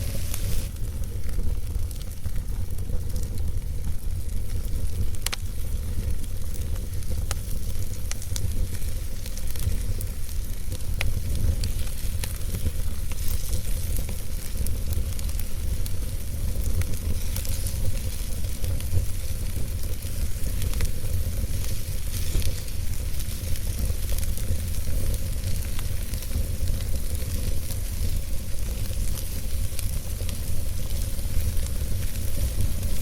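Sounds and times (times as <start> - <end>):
campfire crackling and popping: 0.0 - 33.0
steady hiss: 0.0 - 33.0.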